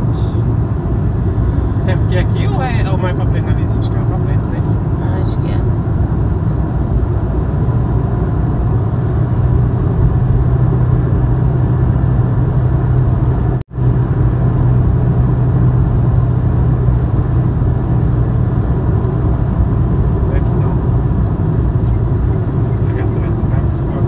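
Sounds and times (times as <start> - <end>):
vehicle engine and road drone: 0.0 - 24.0.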